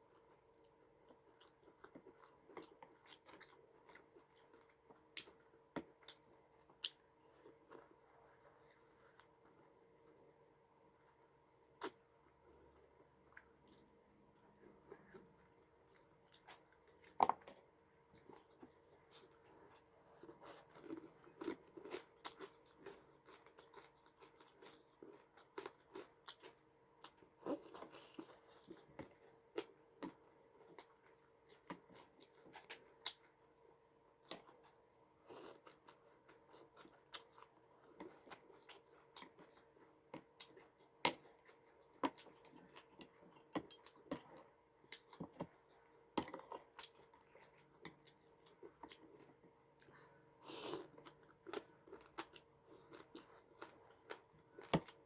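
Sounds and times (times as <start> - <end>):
person chewing crunchy food: 0.0 - 9.6, 11.8 - 33.5, 34.1 - 55.0.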